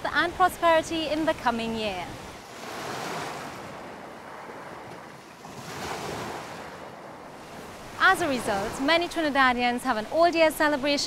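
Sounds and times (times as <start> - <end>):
sea surf washing: 0.0 - 11.0.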